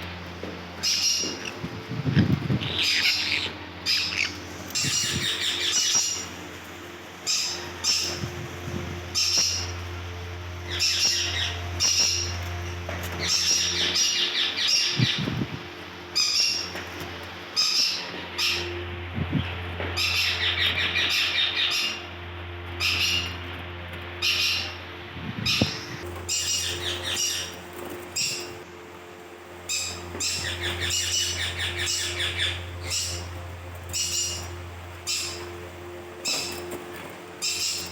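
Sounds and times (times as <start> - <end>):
steady low hum: 0.0 - 37.9
parakeets squawking: 0.8 - 6.6, 7.2 - 10.0, 10.6 - 15.4, 16.1 - 16.8, 17.6 - 22.1, 22.8 - 23.5, 24.2 - 24.8, 25.4 - 28.6, 29.6 - 37.9.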